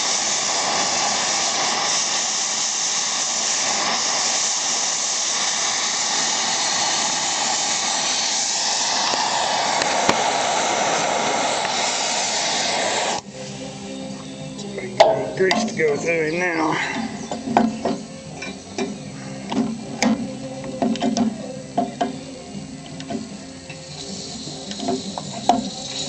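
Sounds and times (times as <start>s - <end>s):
gas torch flame hissing: 0.0s - 26.0s.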